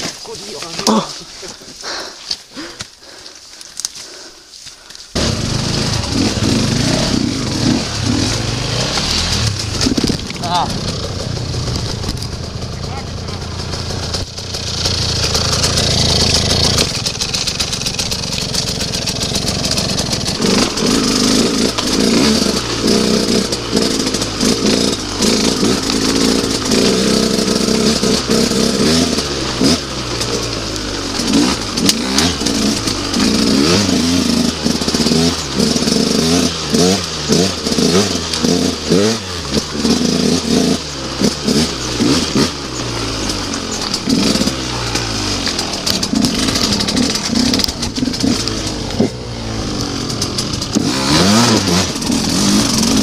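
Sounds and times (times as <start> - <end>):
dirt bike engine revving: 5.2 - 53.0.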